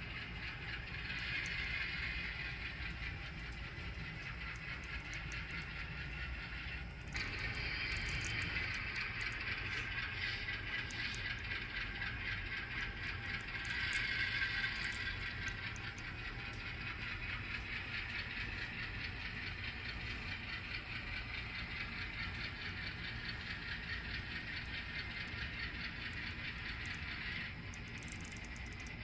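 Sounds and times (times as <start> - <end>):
model train rattling on track: 0.0 - 29.0.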